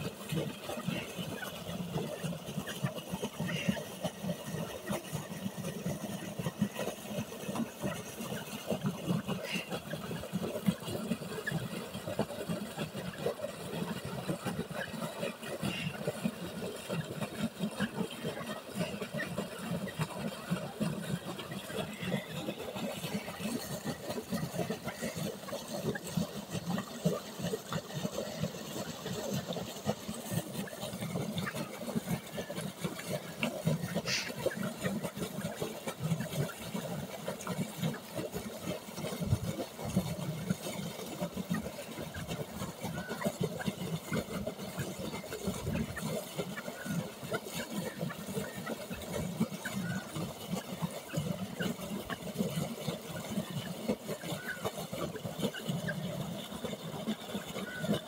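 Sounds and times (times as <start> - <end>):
water gushing from pipe: 0.0 - 58.0.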